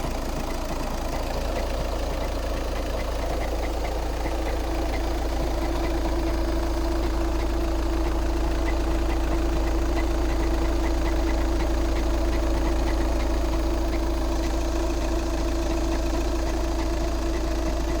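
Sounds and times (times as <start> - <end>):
diesel engine idling: 0.0 - 18.0
light regular engine knock: 0.0 - 18.0.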